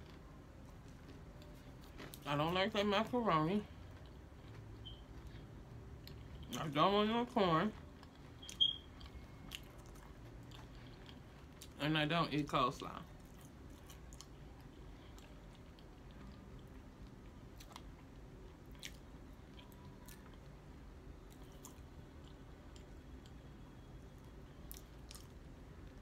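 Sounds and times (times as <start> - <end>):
chewing fried food: 0.0 - 26.0.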